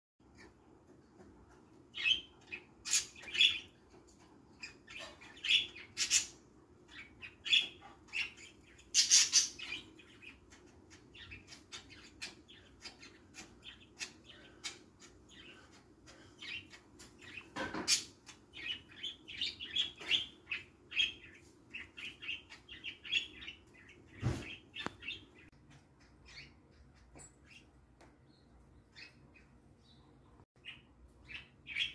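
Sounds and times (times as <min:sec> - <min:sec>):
budgerigars chirping: 0:01.9 - 0:03.8, 0:04.6 - 0:27.7, 0:30.6 - 0:31.9.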